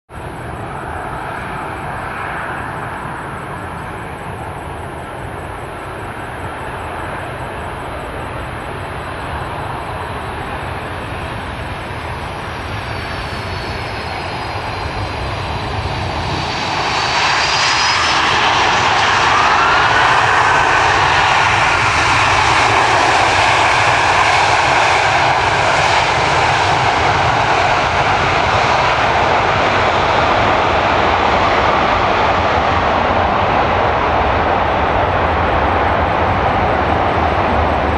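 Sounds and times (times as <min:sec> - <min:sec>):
jet airliner approaching: 0:00.1 - 0:37.9.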